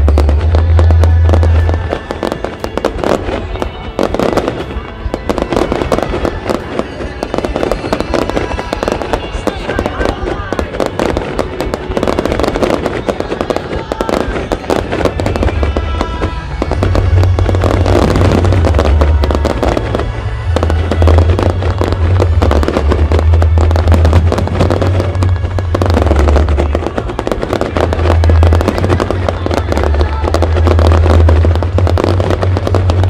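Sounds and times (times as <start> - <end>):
fireworks bursting and crackling: 0.0 - 33.0
heavy low rumble: 0.0 - 33.0
music playing: 0.0 - 33.0.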